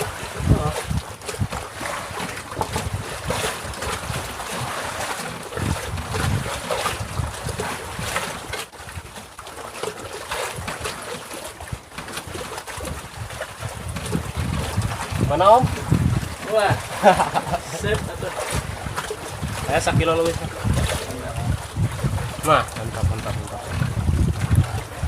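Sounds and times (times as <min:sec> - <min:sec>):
wind buffeting microphone: 0:00.0 - 0:09.2, 0:11.6 - 0:25.0
knocks and splashes: 0:00.0 - 0:25.0
water slapping against raft: 0:00.0 - 0:25.0.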